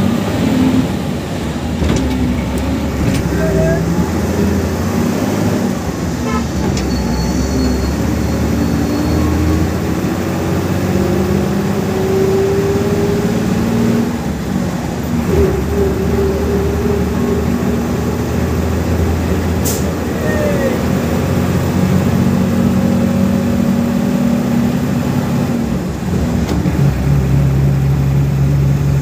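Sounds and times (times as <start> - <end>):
bus engine: 0.0 - 29.0
road noise: 0.0 - 29.0.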